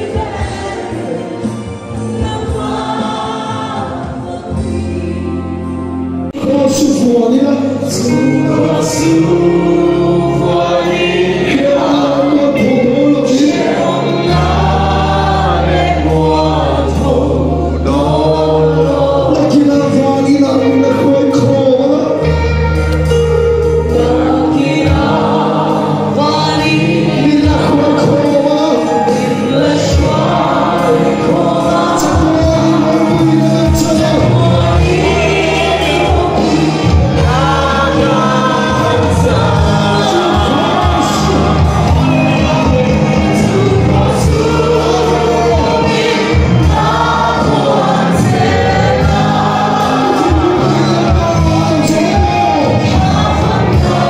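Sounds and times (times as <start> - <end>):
band accompaniment: 0.0 - 54.0
bass line: 0.0 - 54.0
congregation singing: 0.0 - 54.0.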